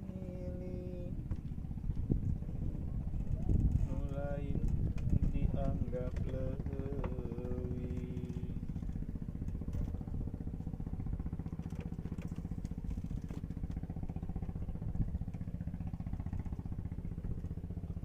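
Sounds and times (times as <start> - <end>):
small engine running: 2.3 - 18.0.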